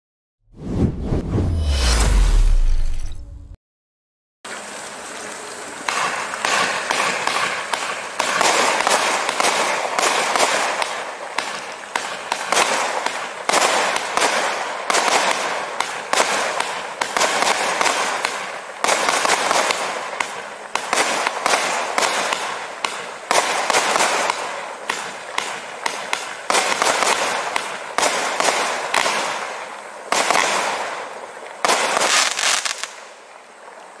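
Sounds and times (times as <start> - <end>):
fireworks shots and aerial bursts: 0.5 - 3.6, 5.9 - 32.9.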